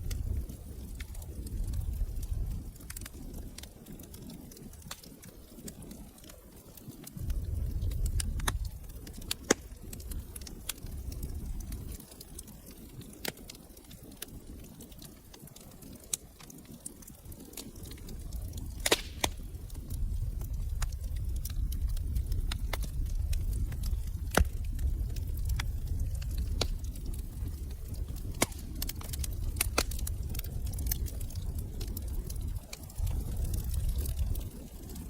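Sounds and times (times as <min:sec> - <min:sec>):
low roar of flames: 0:00.0 - 0:35.0
wood fire crackling and popping: 0:00.0 - 0:35.0.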